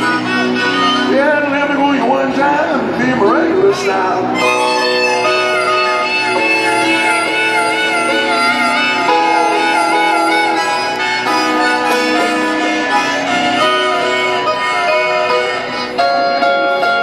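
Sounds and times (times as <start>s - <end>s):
blues guitar through pa: 0.0s - 17.0s.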